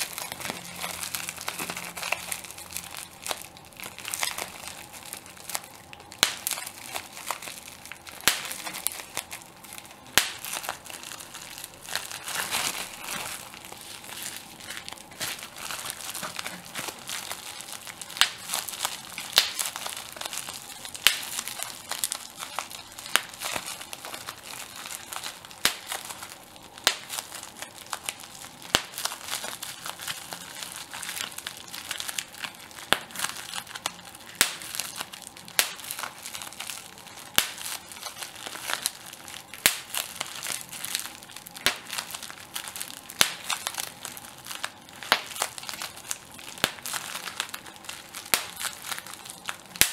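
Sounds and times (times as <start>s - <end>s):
bubble wrap crinkling: 0.0s - 49.9s
bubble wrap popping: 0.0s - 49.9s.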